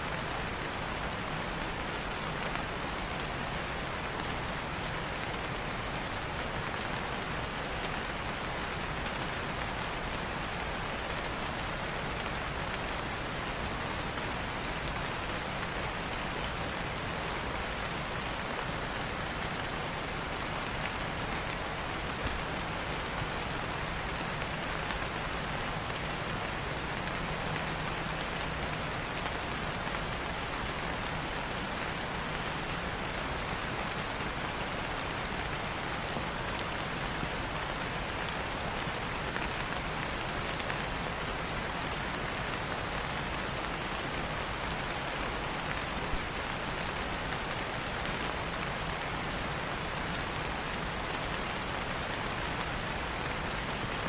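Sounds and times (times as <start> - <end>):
rain on foliage: 0.0 - 54.0.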